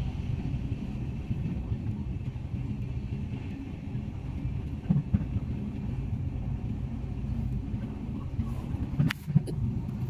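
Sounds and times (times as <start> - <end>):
train rumbling on track: 0.0 - 10.0.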